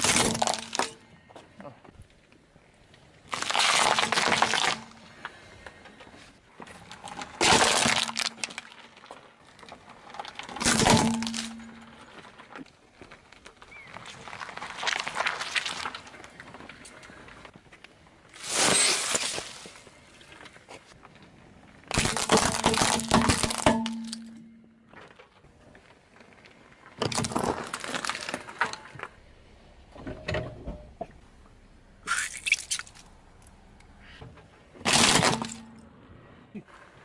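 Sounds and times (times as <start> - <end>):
car tyre crushing objects: 0.0 - 1.3, 3.0 - 6.0, 6.6 - 17.2, 21.8 - 37.0.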